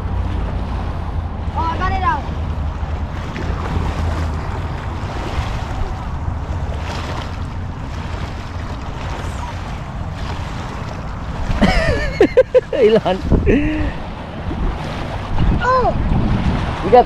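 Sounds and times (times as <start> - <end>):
waves washing against concrete: 0.0 - 17.0
wind buffeting microphone: 0.0 - 17.0.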